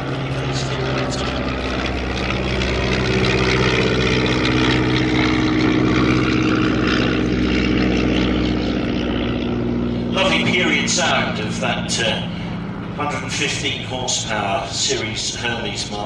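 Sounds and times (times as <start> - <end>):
propeller plane engine running: 0.0 - 16.0.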